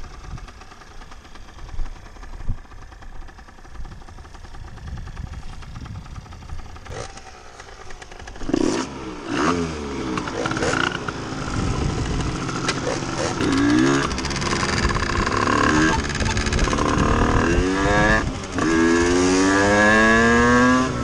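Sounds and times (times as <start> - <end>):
moped engine idling: 0.0 - 18.7
moped engine revving: 0.0 - 21.0.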